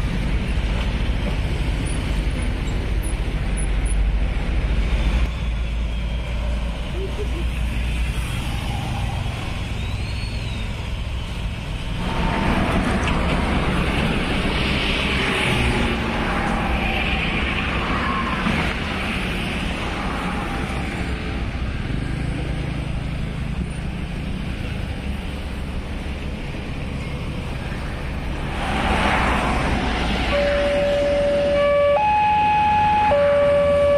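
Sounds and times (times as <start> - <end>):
road traffic: 0.0 - 33.9.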